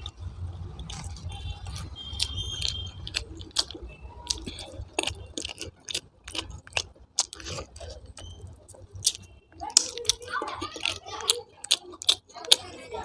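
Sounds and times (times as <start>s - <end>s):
low steady hum: 0.0s - 11.2s
person chewing food: 0.0s - 13.0s.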